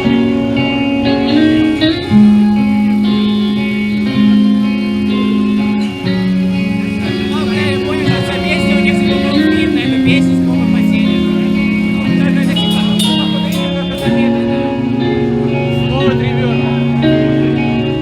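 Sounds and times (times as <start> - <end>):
guitar chords ringing: 0.0 - 18.0
live band playing: 0.0 - 18.0.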